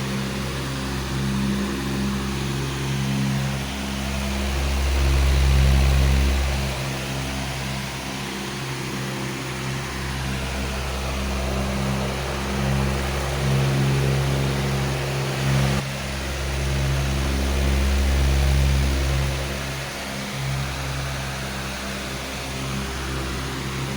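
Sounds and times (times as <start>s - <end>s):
powerful fan running: 0.0s - 23.9s.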